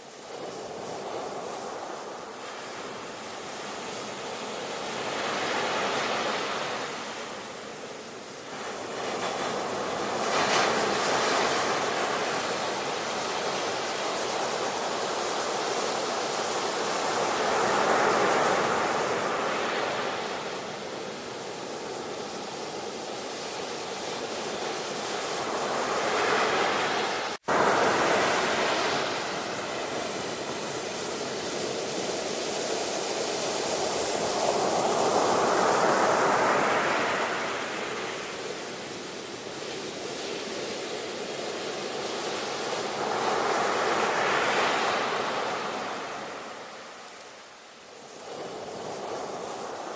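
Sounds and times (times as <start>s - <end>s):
ocean waves breaking: 8.5s - 49.9s.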